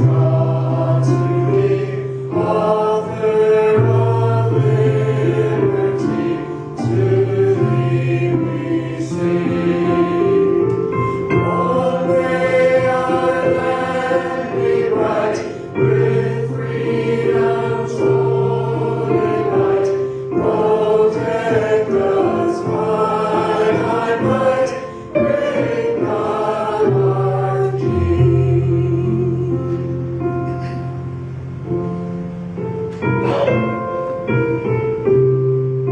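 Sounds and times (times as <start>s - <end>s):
church choir singing: 0.0s - 30.7s
instrumental accompaniment: 0.0s - 35.9s.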